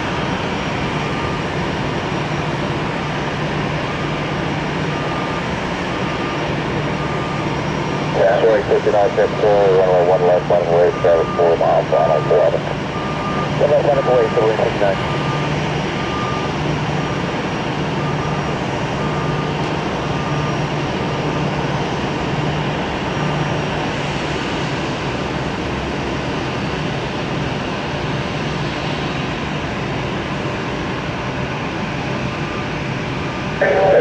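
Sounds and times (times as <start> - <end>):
aircraft engines running: 0.0 - 34.0.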